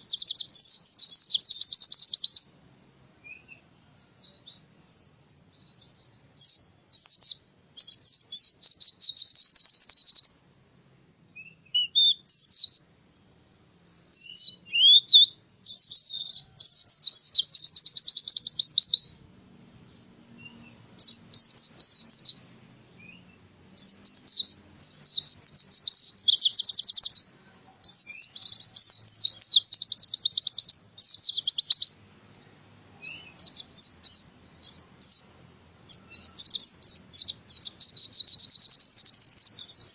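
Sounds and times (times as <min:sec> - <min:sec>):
bird twittering and trilling: 0:00.0 - 0:10.6, 0:11.2 - 0:39.9.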